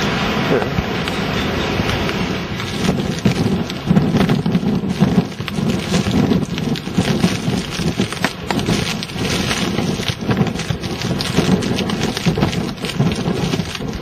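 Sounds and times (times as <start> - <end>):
wind buffeting microphone: 0.0 - 14.0
crackle of small hits on microphone: 2.6 - 14.0.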